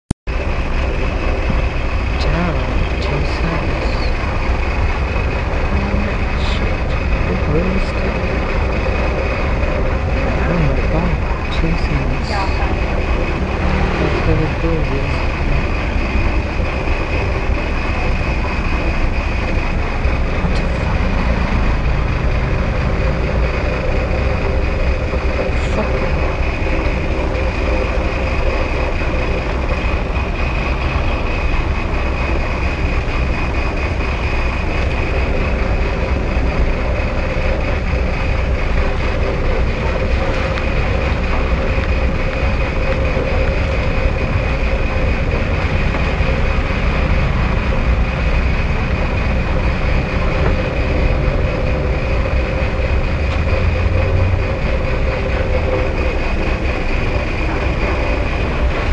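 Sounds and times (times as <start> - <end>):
vehicle cabin rumble: 0.3 - 58.9.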